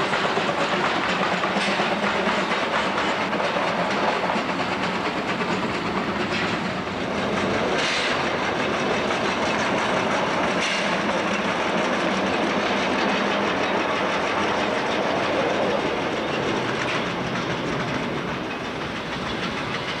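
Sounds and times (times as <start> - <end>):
steam locomotive running on track: 0.0 - 20.0.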